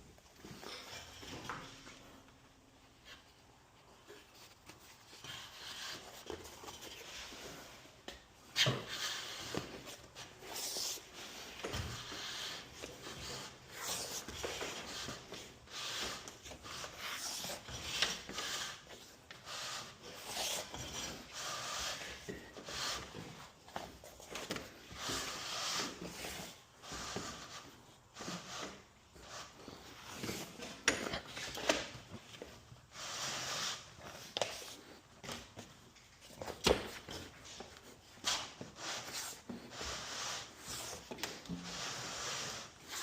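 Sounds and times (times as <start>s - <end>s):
scraping and rubbing strokes: 2.9s - 35.0s, 36.0s - 43.0s.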